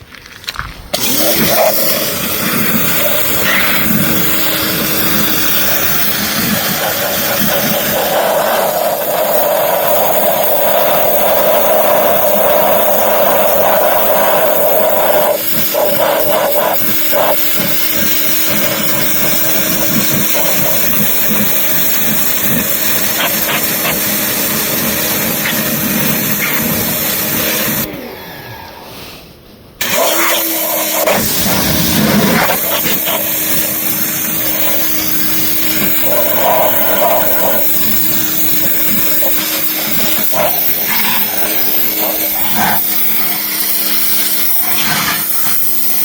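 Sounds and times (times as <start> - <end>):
pressure washer spraying: 0.9 - 27.9, 29.8 - 46.0.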